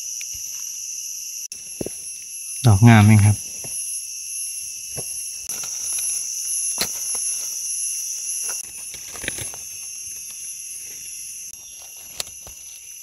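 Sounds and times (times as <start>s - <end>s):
chorus of forest insects: 0.0s - 13.0s.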